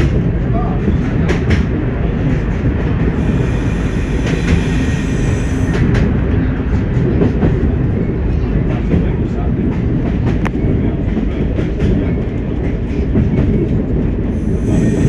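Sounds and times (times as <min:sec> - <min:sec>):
train engine and wheels rumbling: 0:00.0 - 0:15.0.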